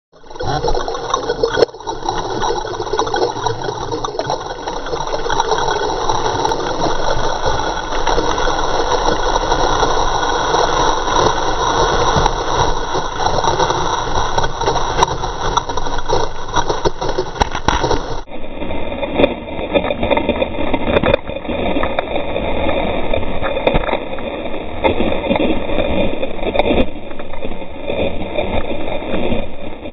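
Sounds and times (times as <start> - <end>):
water splashes: 0.1 - 29.9
surf rushing and churning: 0.2 - 29.9.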